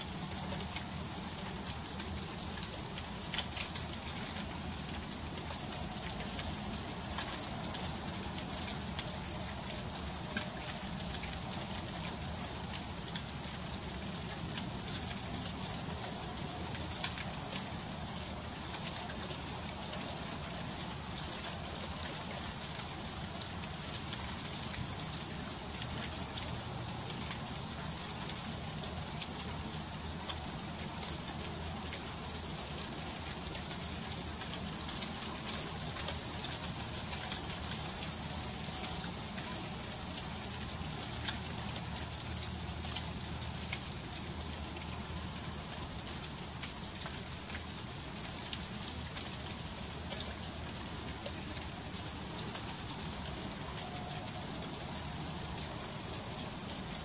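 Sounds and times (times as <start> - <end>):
freezing rain hissing: 0.0 - 57.0.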